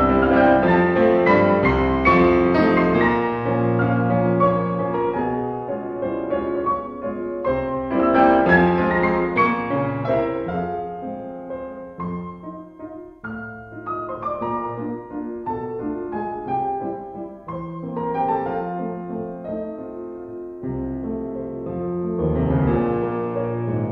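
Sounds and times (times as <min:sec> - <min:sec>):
slow piano melody: 0:00.0 - 0:23.9.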